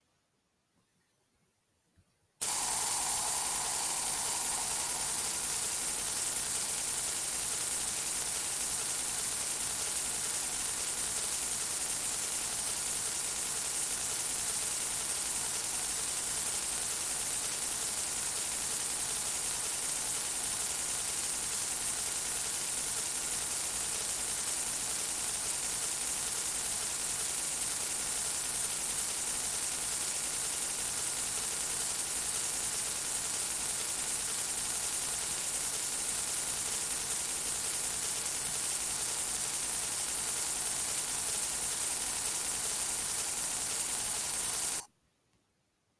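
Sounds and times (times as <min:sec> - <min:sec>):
fingertips tapping blurred into hiss: 0:02.4 - 0:44.9.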